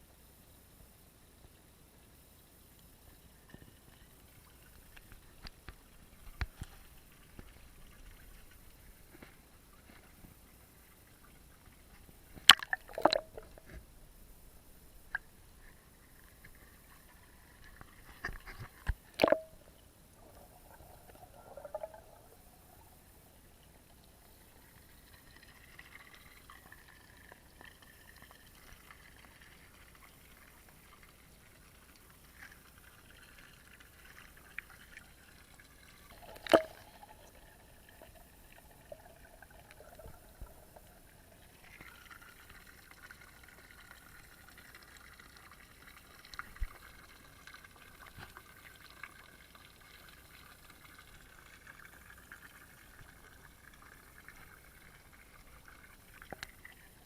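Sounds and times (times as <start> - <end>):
faint water trickling: 0.0 - 57.0.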